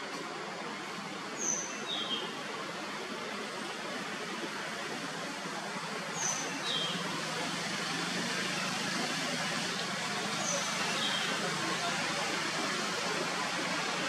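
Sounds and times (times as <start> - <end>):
rushing outdoor background noise: 0.0 - 14.0.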